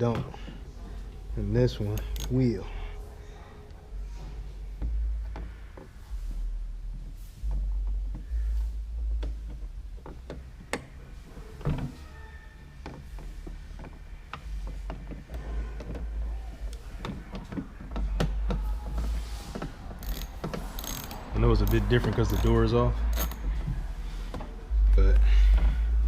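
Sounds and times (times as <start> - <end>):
low rumbling handling noise: 0.0 - 26.0.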